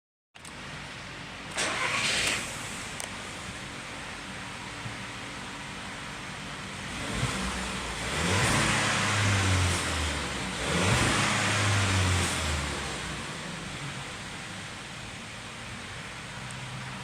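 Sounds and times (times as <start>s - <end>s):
car engine idling and revving: 0.4s - 17.0s.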